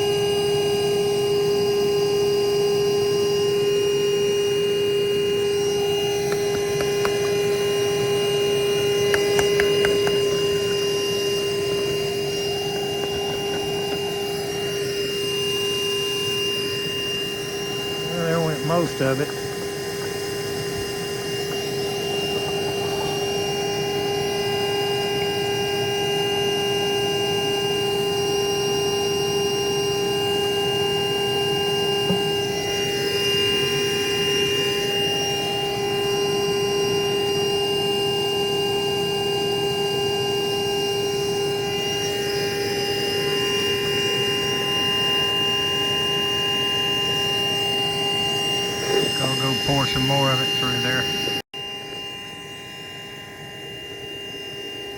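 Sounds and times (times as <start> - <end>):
electric motor drone: 0.0 - 54.9.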